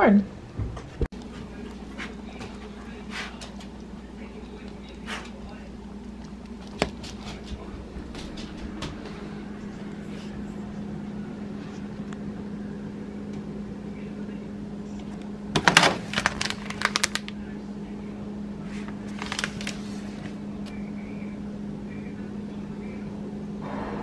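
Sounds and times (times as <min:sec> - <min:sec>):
low appliance hum: 0:00.0 - 0:24.0.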